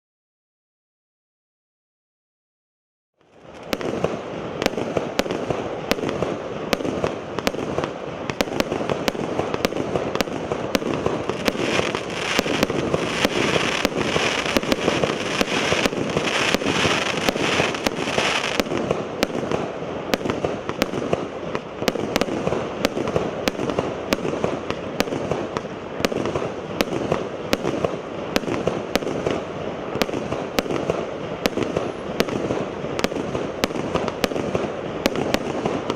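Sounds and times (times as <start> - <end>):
firework crackling: 3.2 - 35.9
firework shots: 3.3 - 35.9.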